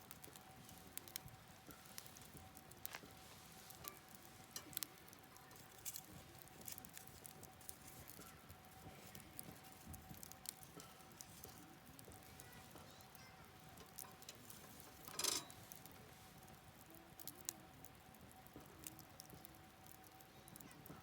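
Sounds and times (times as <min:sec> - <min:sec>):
campfire crackling: 0:00.0 - 0:21.0
faint steady hiss: 0:00.0 - 0:21.0.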